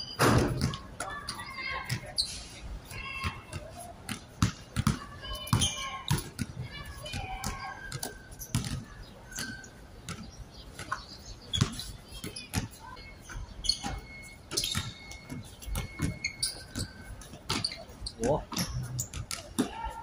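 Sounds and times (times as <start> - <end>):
shoe squeaks: 0.0 - 20.0
basketball bouncing on court: 0.2 - 2.1, 2.9 - 20.0.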